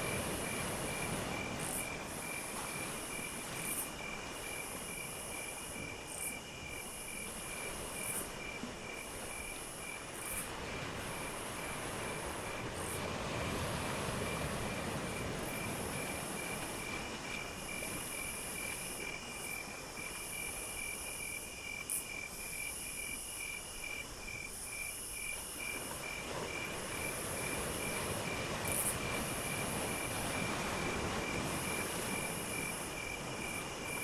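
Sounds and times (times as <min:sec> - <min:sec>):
cricket chirping: 0:00.0 - 0:34.0.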